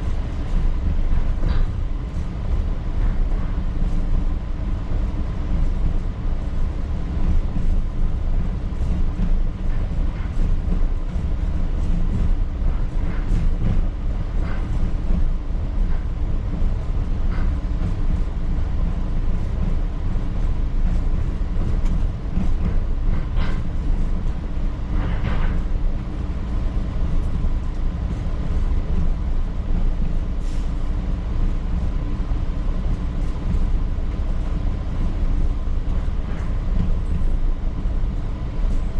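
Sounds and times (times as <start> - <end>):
rumble of wheels on rail: 0.0 - 38.9.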